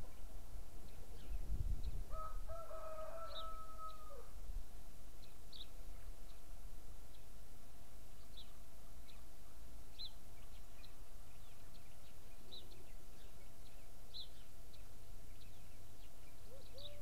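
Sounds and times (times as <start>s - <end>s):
garden birds chirping: 0.0s - 17.0s.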